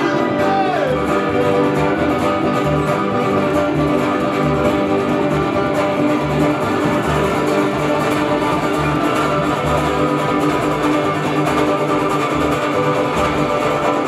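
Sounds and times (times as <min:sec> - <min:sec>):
plucked double bass: 0:00.0 - 0:14.0
strummed acoustic guitars: 0:00.0 - 0:14.0.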